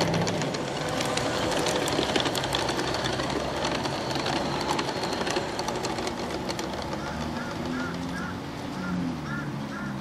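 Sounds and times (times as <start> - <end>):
model train drive whir: 0.0 - 9.0
wheels clicking over rail joints: 0.0 - 10.0.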